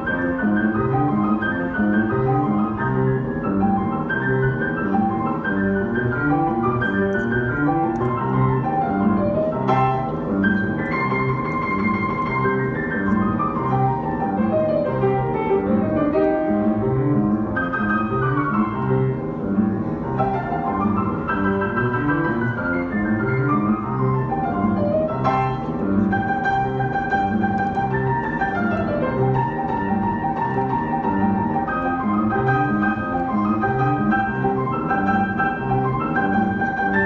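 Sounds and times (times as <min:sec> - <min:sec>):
boogie-woogie piano: 0:00.0 - 0:37.0.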